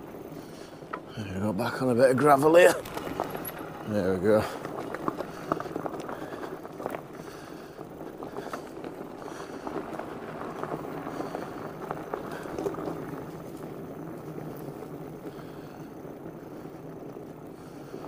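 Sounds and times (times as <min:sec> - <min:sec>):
tyres crunching on gravel: 0:00.0 - 0:18.0.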